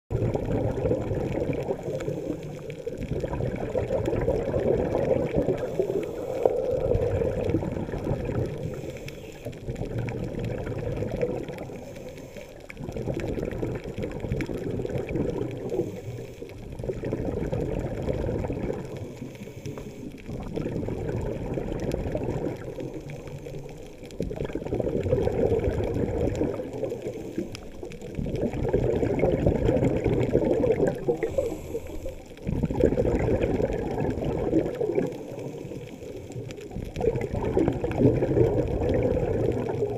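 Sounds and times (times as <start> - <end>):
water sloshing underwater: 0.1 - 39.9.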